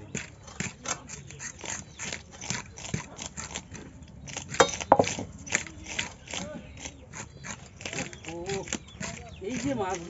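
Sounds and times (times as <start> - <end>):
fish being cut on a blade: 0.1 - 10.0.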